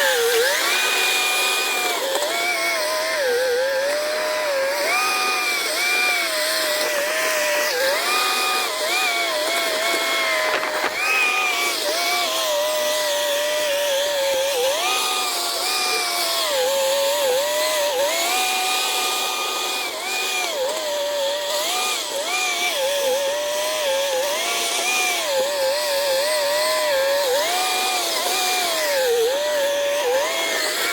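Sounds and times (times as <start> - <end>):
small motor whining: 0.0 - 30.9.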